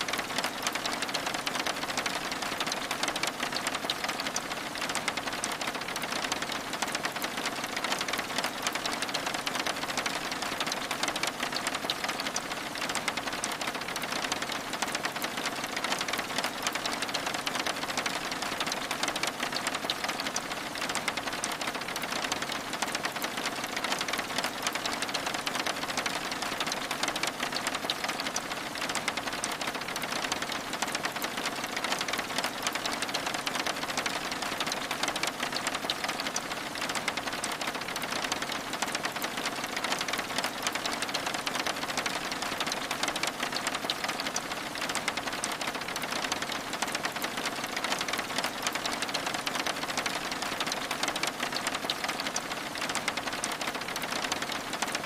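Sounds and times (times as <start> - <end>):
rain pattering on window glass: 0.0 - 55.0.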